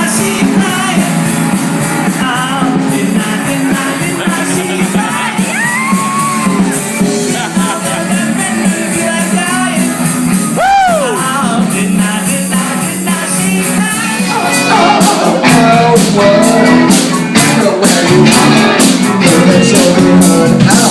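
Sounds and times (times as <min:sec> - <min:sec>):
live rock band playing: 0:00.0 - 0:20.9
person shouting singing: 0:02.4 - 0:09.8, 0:10.6 - 0:20.9.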